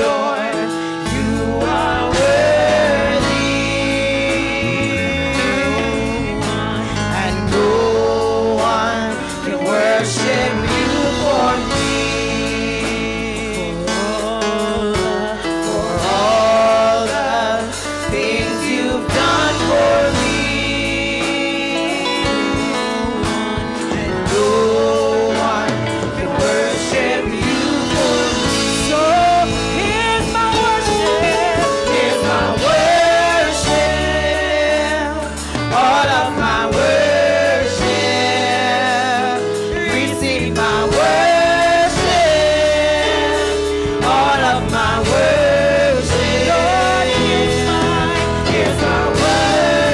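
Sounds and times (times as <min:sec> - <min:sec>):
live band accompaniment: 0:00.0 - 0:49.9
women singing gospel song: 0:00.0 - 0:49.9.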